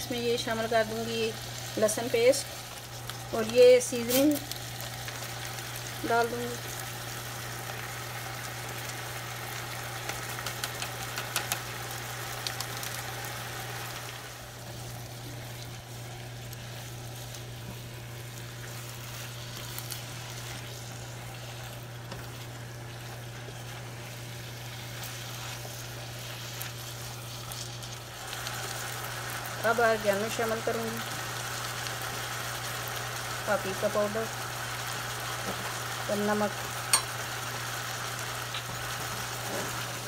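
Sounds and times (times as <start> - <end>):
steady low hum: 0.0 - 35.4
meat sizzling in a frying pan: 0.0 - 40.0.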